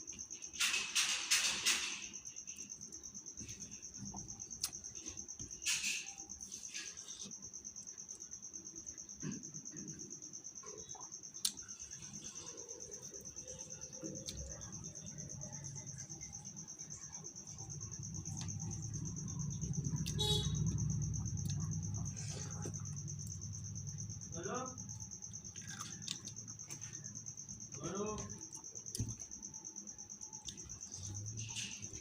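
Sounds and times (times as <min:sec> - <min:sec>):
cricket chirping: 0:00.0 - 0:32.0.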